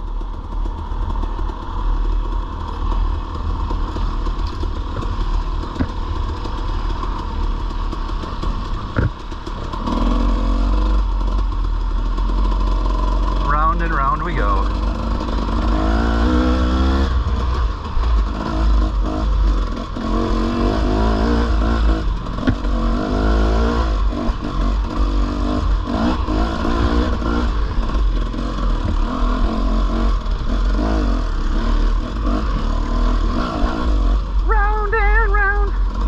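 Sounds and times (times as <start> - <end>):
dirt bike engine revving: 0.4 - 36.0.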